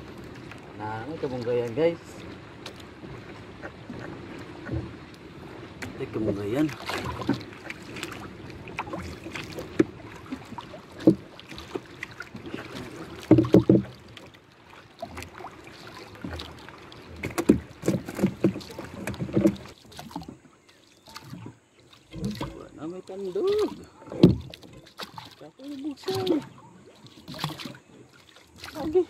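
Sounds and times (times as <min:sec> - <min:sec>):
paddle knocking against hull: 0:00.0 - 0:29.0
paddle splashing in water: 0:00.0 - 0:29.0
water washing: 0:00.0 - 0:29.0.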